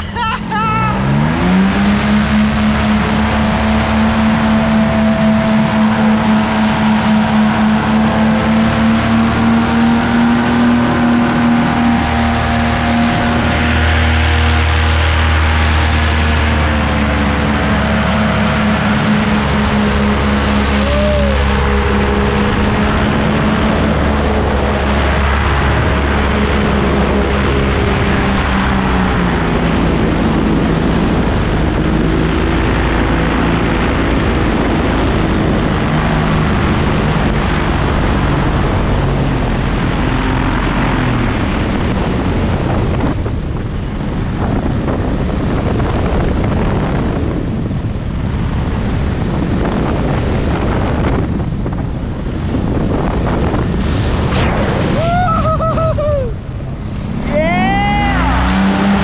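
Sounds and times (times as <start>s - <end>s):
paramotor engine and propeller: 0.0s - 59.0s
wind rush on microphone: 0.0s - 59.0s.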